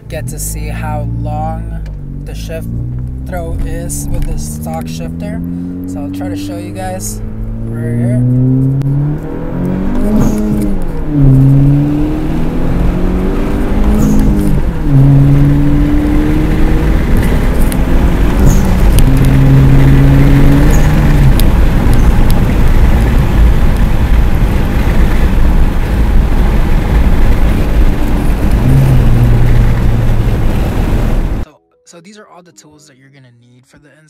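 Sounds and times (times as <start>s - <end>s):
car engine accelerating: 0.0s - 31.5s
road and wind rumble: 0.0s - 31.5s.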